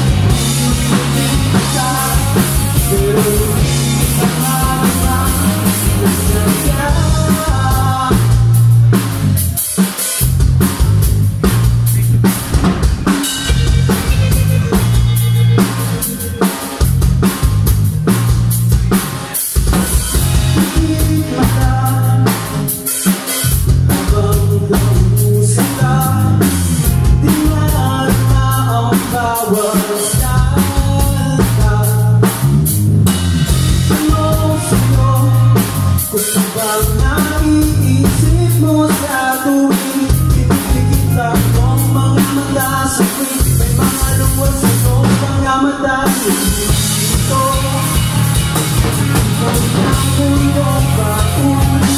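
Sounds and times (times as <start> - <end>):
electric bass line: 0.0 - 39.3, 40.0 - 51.9
drum kit beat: 0.0 - 51.9
electric guitars: 0.0 - 51.9.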